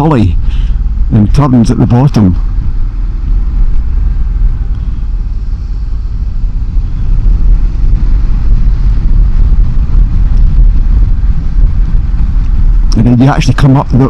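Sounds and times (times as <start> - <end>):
motorcycle engine rumble: 0.0 - 14.0
road noise: 0.0 - 14.0
wind rush: 0.0 - 14.0.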